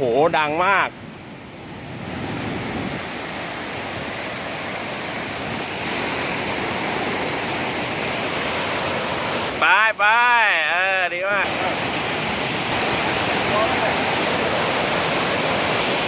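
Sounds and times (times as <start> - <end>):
waterfall rushing: 1.6 - 16.0.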